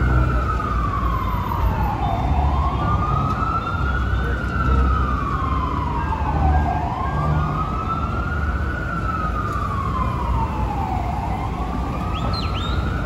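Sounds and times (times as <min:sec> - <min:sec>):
emergency siren wailing: 0:00.0 - 0:13.0
street traffic rumble: 0:00.0 - 0:13.0.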